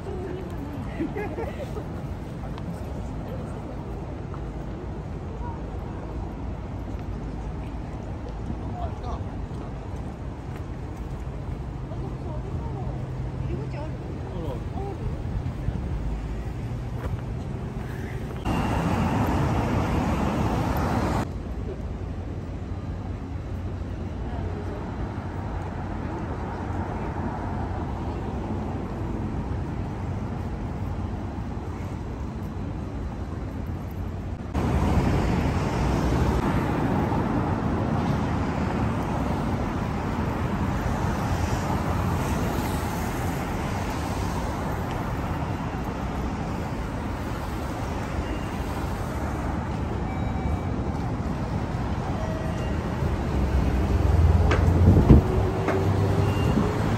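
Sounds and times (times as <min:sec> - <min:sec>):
road traffic passing cars: 0:00.0 - 0:56.9.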